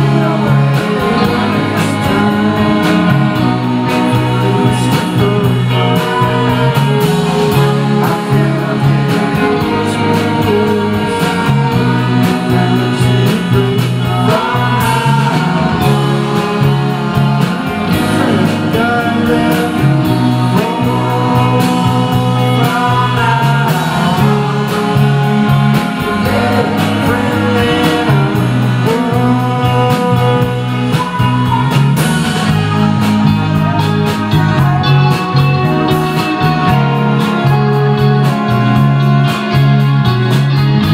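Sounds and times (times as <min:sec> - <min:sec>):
drums: 0:00.0 - 0:40.9
electric guitars: 0:00.0 - 0:40.9
keyboard: 0:00.0 - 0:40.9
person singing: 0:00.0 - 0:40.9
saxophone: 0:00.0 - 0:40.9.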